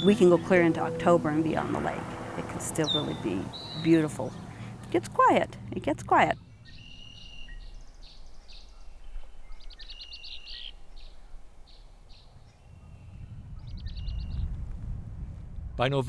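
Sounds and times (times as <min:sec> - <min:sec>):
low outdoor rumble: 0:00.0 - 0:09.8, 0:10.8 - 0:16.0
bird trill: 0:00.0 - 0:14.4
small birds chirping: 0:00.0 - 0:14.5.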